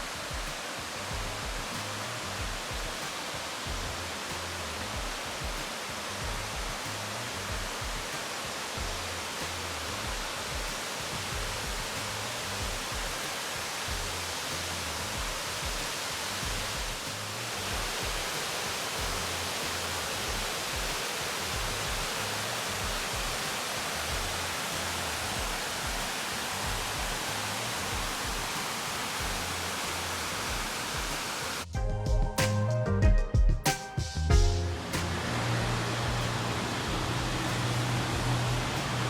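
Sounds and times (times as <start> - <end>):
rush of falling water: 0.0 - 31.8, 34.5 - 39.0
music with low beat: 0.0 - 39.0.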